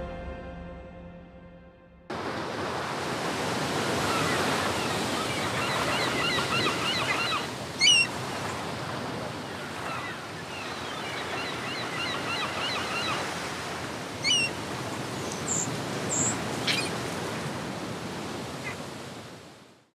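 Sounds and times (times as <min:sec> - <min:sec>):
harbour water washing: 0:02.1 - 0:19.6.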